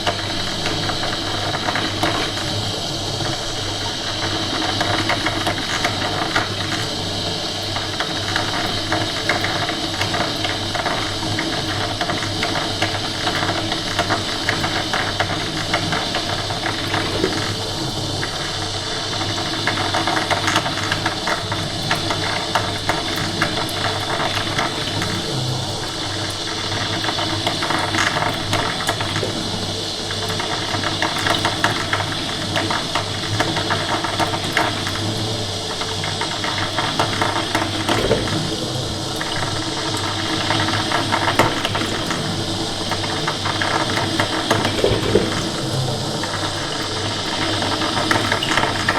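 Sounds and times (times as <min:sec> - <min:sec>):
coffee machine running: 0:00.0 - 0:48.9.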